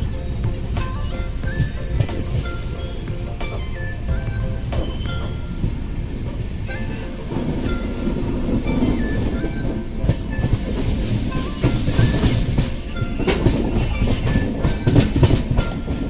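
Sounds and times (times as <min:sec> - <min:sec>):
faint music: 0:00.0 - 0:16.0
train wheels clattering on rails: 0:00.0 - 0:16.0.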